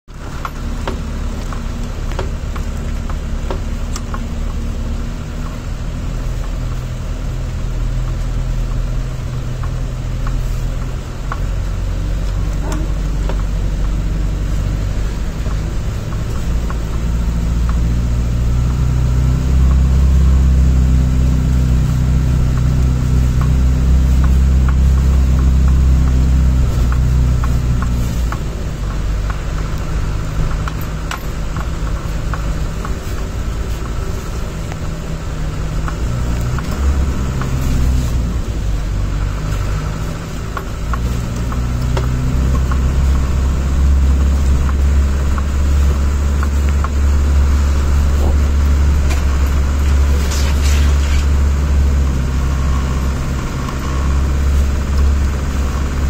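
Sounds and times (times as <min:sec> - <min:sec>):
car engine running under load: 0:00.0 - 0:56.0.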